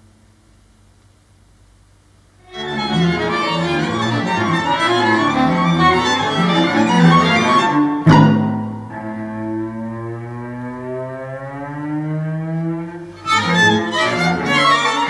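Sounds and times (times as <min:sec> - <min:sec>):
low held cello and bass notes: 0:02.4 - 0:15.0
string music over speakers: 0:02.4 - 0:15.0.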